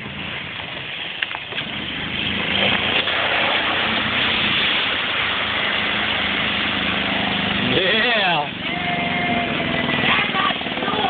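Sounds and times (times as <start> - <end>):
tires splashing through mud: 0.0 - 11.0.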